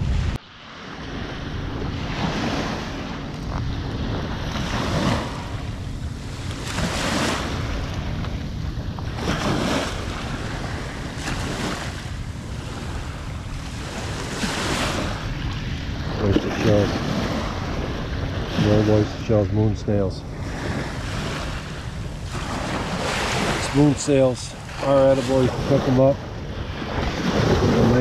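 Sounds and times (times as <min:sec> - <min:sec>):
waves washing onto shore: 0:00.0 - 0:28.0
wind buffeting microphone: 0:00.0 - 0:28.0.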